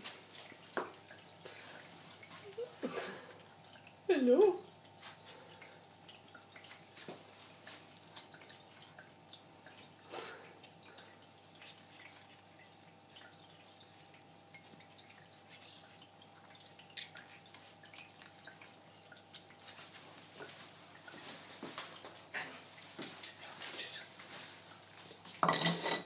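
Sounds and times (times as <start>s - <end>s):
cats chewing and licking: 0.0s - 25.4s.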